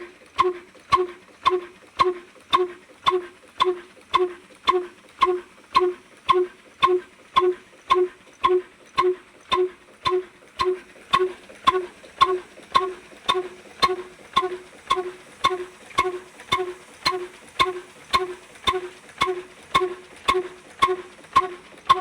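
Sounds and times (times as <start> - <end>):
diesel engine knocking slowly: 0.0 - 22.0.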